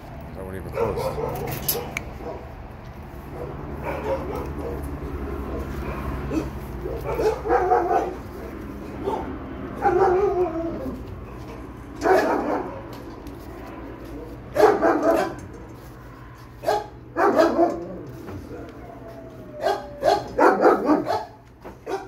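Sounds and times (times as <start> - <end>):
dogs barking: 0.6 - 22.0.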